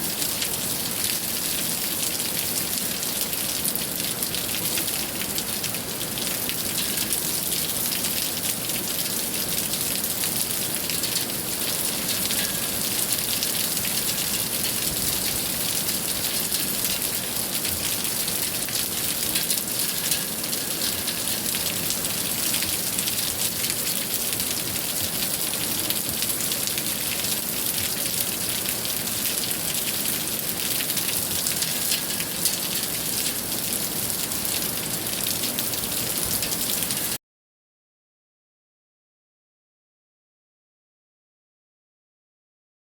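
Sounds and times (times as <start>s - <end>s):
steady rain falling: 0.0s - 37.2s.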